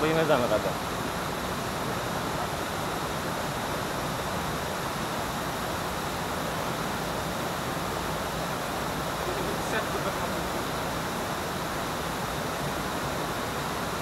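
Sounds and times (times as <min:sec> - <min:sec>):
waterfall and stream over rocks: 0:00.0 - 0:14.0.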